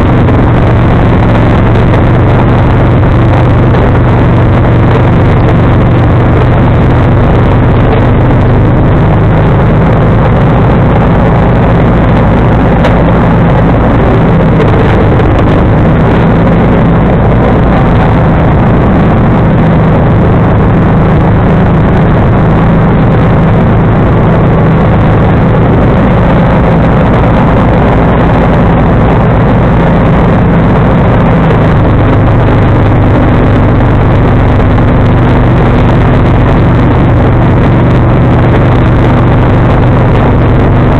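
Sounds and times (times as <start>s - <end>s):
garden tractor engine running: 0.0s - 40.9s.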